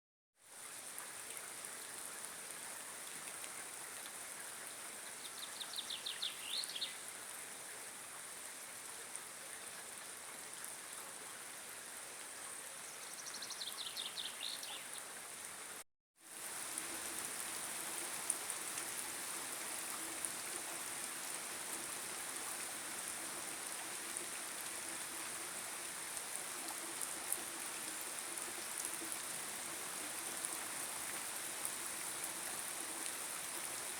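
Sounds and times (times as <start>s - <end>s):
rain falling in woodland: 0.4s - 33.9s.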